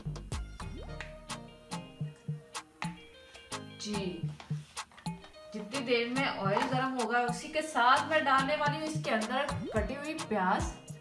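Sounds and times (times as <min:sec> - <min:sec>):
background music with ticking beat: 0:00.0 - 0:11.0.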